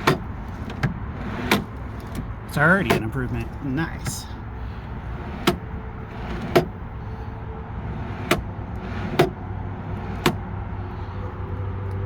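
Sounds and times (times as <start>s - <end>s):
tray rolling on ball-bearing slides: 0.0s - 11.0s.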